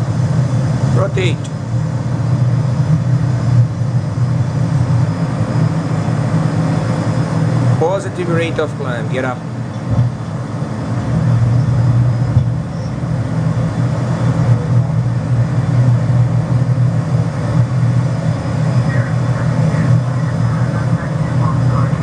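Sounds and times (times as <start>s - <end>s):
jet engines roaring in cabin: 0.0s - 22.0s.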